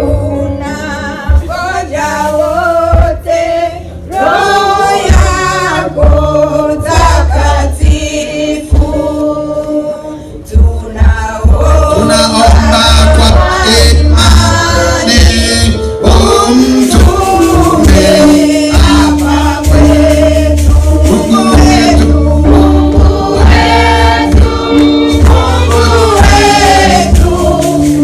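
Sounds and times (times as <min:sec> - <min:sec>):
group singing a hymn in unison: 0:00.0 - 0:28.0.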